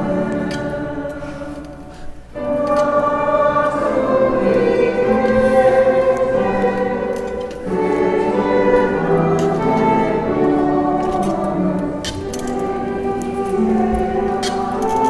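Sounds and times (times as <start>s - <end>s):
choir singing a hymn: 0.0s - 15.0s
instrumental accompaniment: 0.0s - 15.0s.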